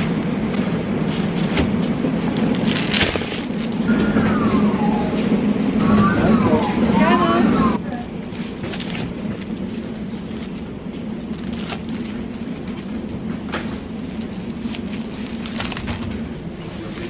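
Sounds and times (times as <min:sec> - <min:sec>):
cooling and ventilation hum: 0:00.0 - 0:17.0.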